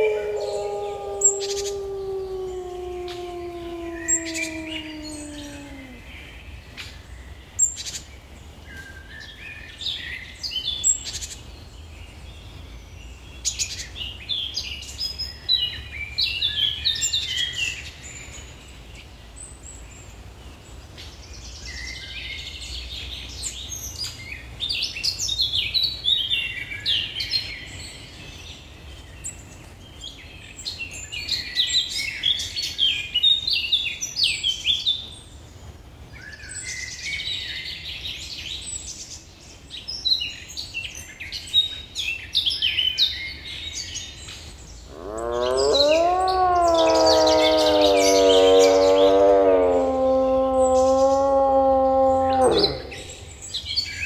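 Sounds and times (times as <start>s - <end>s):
songbirds chirping: 0.0s - 35.5s, 36.2s - 54.0s.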